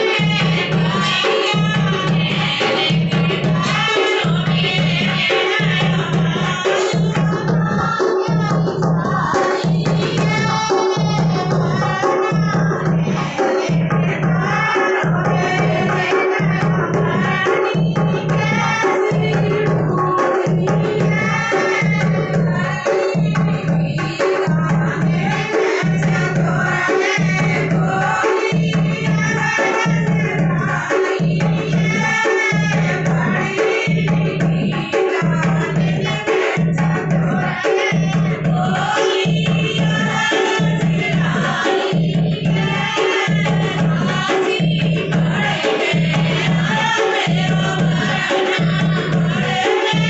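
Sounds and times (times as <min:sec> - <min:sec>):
folk drum rhythm: 0:00.0 - 0:50.0
women singing folk song: 0:00.0 - 0:50.0.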